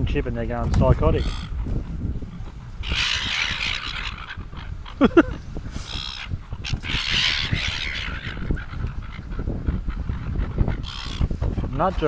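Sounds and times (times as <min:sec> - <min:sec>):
seagulls squawking: 0:00.8 - 0:12.0.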